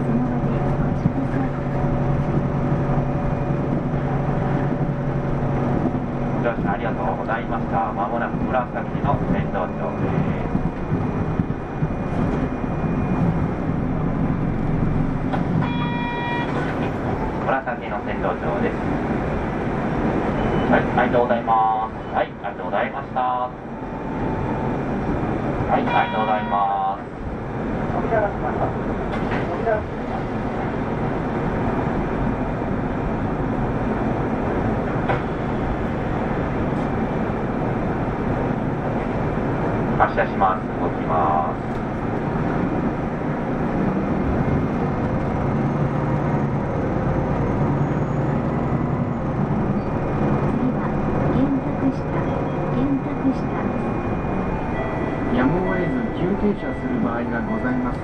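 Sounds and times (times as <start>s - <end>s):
bus engine and road noise: 0.0s - 58.0s.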